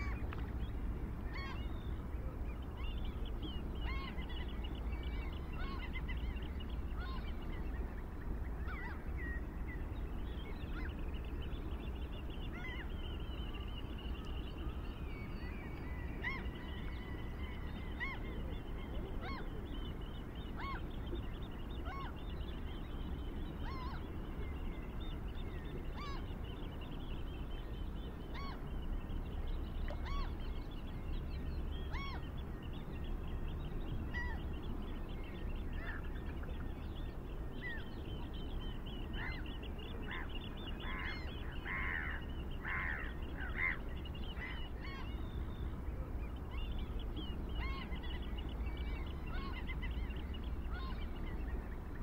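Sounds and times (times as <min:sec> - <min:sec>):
low background rumble: 0:00.0 - 0:52.0.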